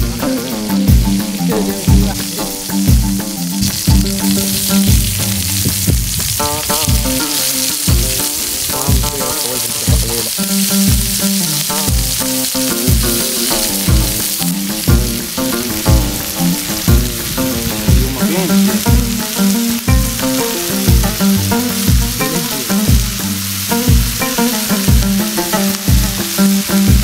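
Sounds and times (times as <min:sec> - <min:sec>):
background music with steady beat: 0:00.0 - 0:27.0
chicken and onions sizzling in oil: 0:00.0 - 0:27.0.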